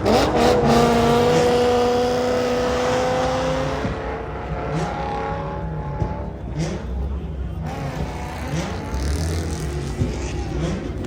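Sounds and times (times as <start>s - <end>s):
car engine revving hard: 0.0s - 7.0s, 7.6s - 11.0s.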